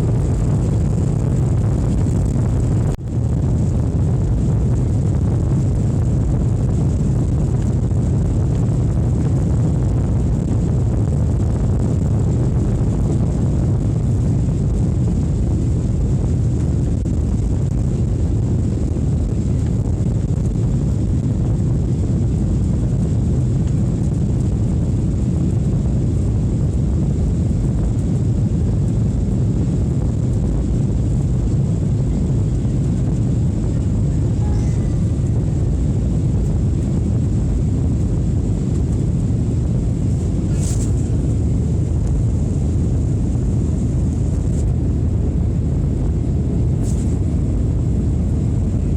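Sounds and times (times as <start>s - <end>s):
faint high whine: 0.0s - 48.9s
jet engine and airflow roar: 0.0s - 48.9s.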